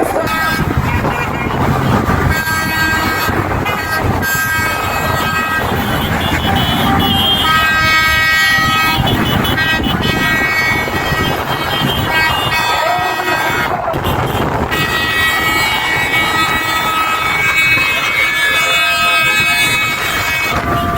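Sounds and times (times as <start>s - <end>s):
passing road traffic: 0.0s - 20.9s
vehicle horns honking: 0.0s - 20.9s.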